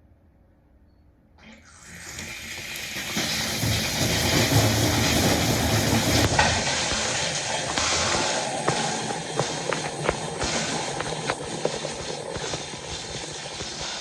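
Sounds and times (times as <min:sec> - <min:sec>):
pressurised water spraying: 0:01.7 - 0:14.0.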